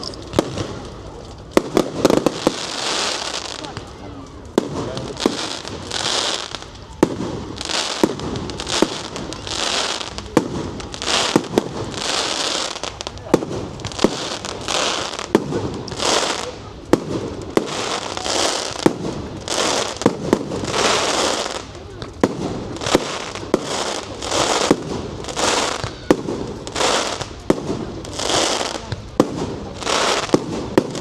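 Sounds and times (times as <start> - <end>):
fireworks bursting with sharp bangs: 0.0 - 31.0
fireworks crackling hiss: 0.0 - 31.0.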